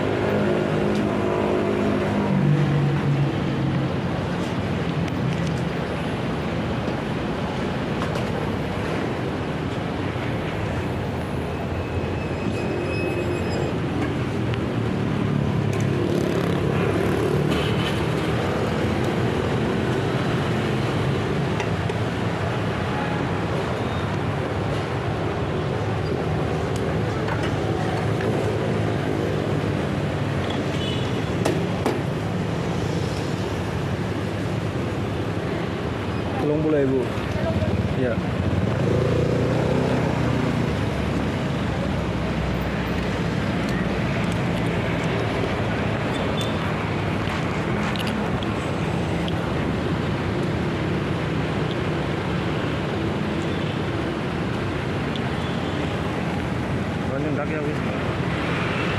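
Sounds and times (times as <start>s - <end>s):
traffic and engine noise: 0.0s - 58.9s.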